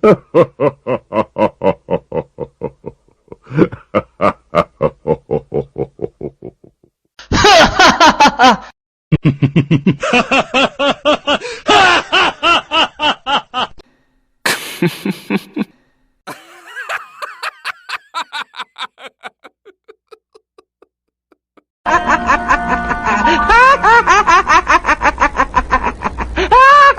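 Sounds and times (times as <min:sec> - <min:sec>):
person laughing: 0:00.0 - 0:13.8, 0:14.5 - 0:26.9.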